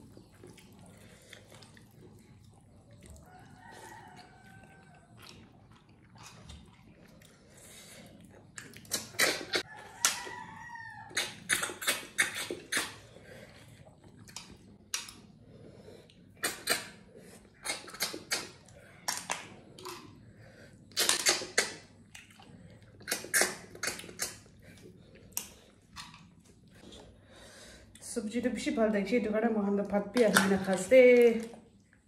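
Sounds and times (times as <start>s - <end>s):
people slurping snails: 0.0s - 10.4s, 11.0s - 28.0s.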